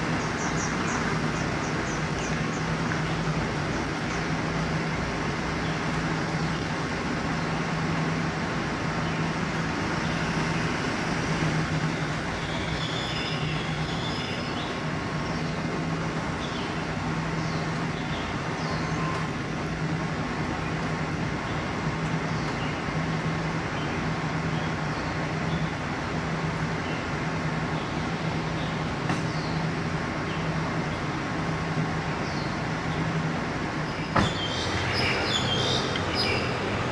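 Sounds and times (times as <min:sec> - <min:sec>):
urban traffic hum: 0:00.0 - 0:36.9.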